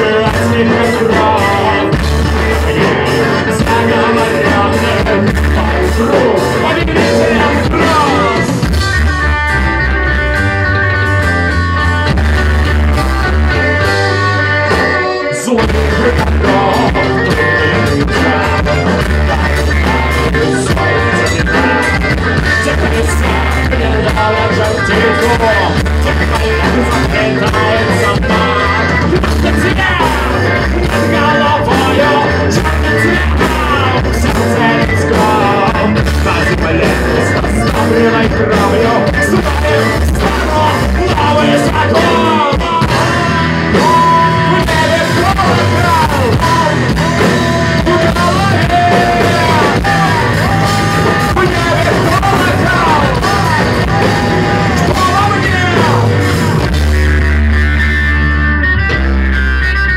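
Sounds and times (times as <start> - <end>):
lead guitar bending pitch: 0.0 - 59.9
rock band playing live: 0.0 - 59.9.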